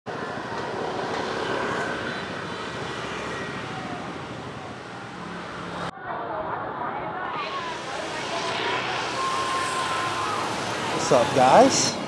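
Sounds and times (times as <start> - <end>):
steady vehicle noise: 0.1 - 12.0.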